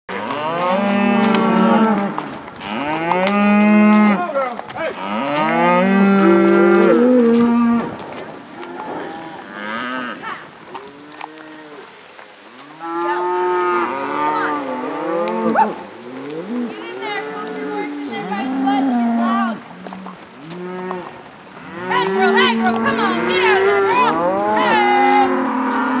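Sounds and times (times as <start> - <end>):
cattle mooing: 0.1 - 7.9, 8.6 - 11.9, 12.6 - 26.0.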